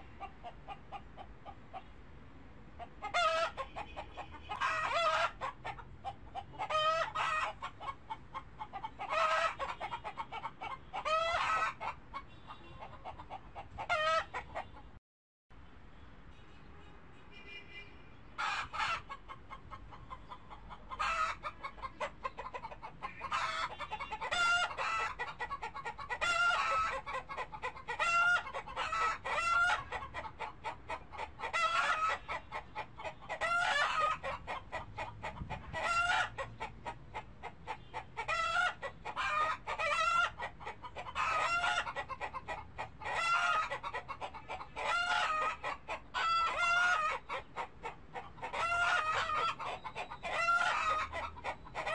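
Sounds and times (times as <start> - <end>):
chickens clucking: 0.0 - 2.0, 2.7 - 15.0, 18.3 - 51.9.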